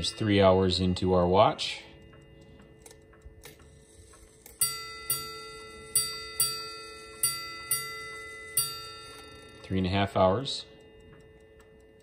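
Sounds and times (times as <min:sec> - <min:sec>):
clock bell rings: 0:00.0 - 0:12.0
faint clicks of clock hands: 0:00.0 - 0:12.0.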